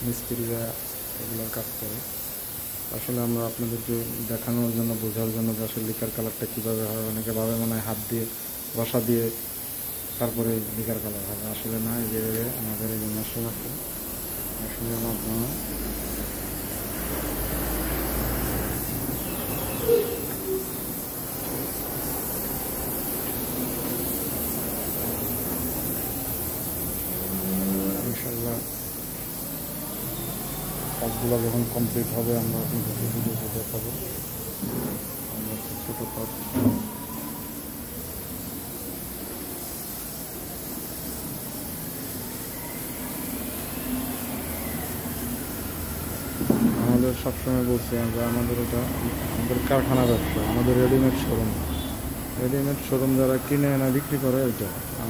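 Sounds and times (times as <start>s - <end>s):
spray gun hissing: 0.0s - 55.0s.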